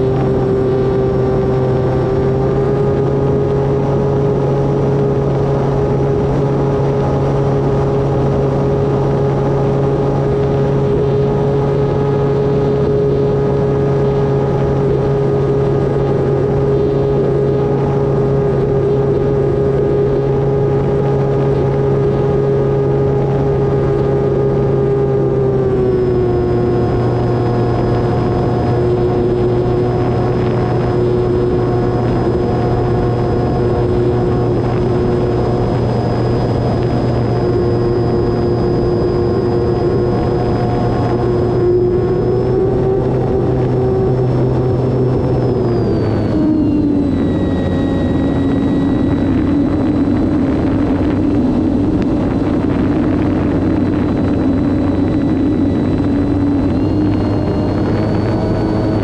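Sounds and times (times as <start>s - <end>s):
electric motor whining: 0.0s - 59.0s
rushing noise: 0.0s - 59.0s.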